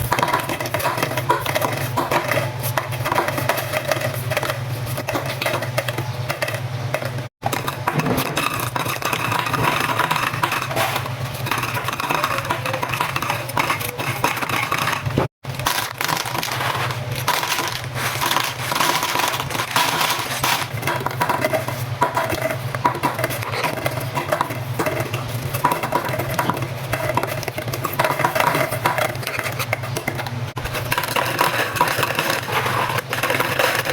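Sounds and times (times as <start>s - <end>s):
plastic straws clattering: 0.0s - 33.9s.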